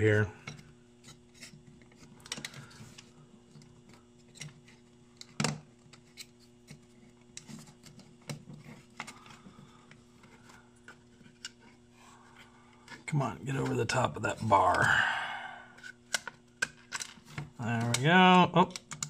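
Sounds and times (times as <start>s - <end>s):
faint steady hum: 0.0s - 19.0s
plastic parts clicking and scraping: 0.5s - 13.8s, 15.8s - 18.1s.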